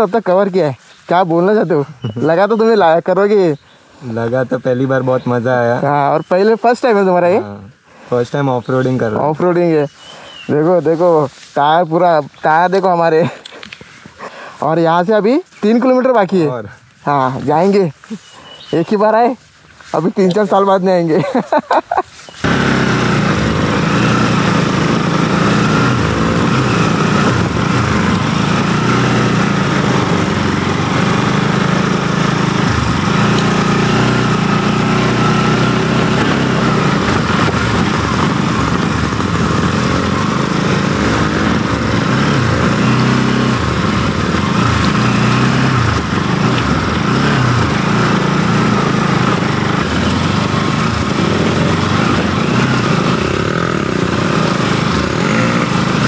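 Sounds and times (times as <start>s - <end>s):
motorcycle engine running: 0.0s - 7.5s, 8.1s - 19.2s, 19.8s - 56.0s.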